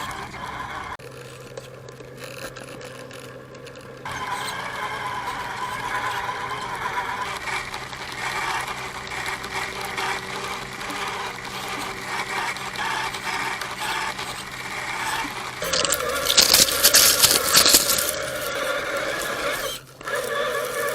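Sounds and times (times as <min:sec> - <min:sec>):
small electric motor whining: 0:00.0 - 0:20.9
tyres crunching over gravel: 0:00.0 - 0:20.9.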